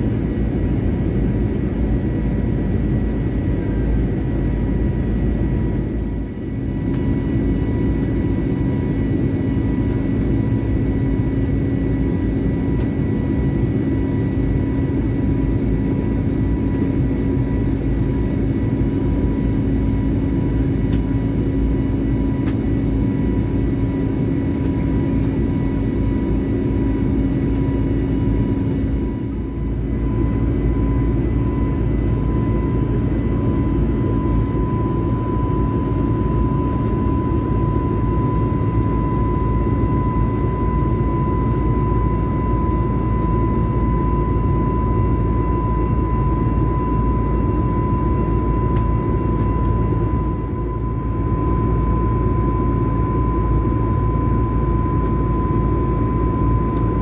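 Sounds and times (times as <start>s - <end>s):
airliner cabin engine roar: 0.0s - 57.0s
constant low hum: 0.0s - 57.0s.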